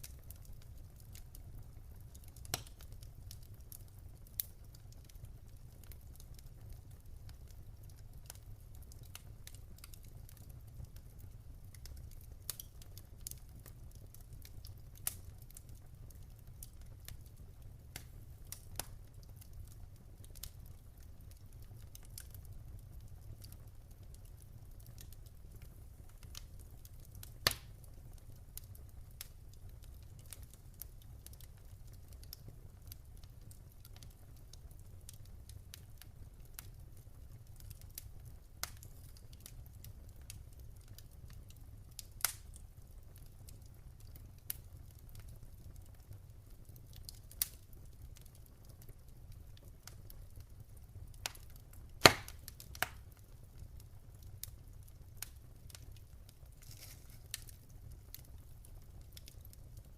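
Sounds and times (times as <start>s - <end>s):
fire crackles and pops: 0.0s - 59.9s
low fire rumble: 0.0s - 59.9s.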